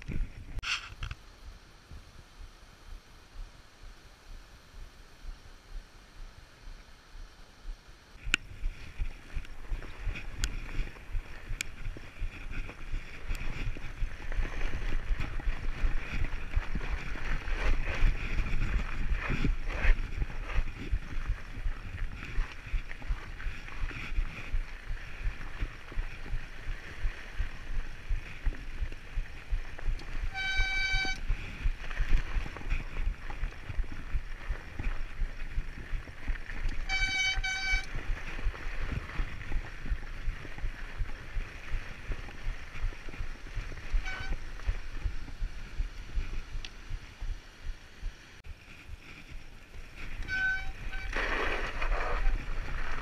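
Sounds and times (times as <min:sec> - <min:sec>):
bike tyres crunching on snow: 0:00.0 - 0:53.0.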